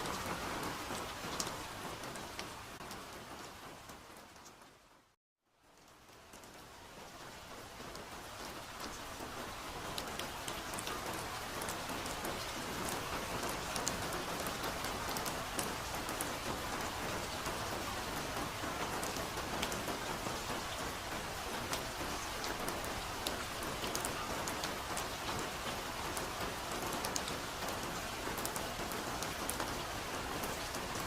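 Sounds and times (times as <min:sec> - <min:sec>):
soft rain on a forest: 0:00.0 - 0:31.0.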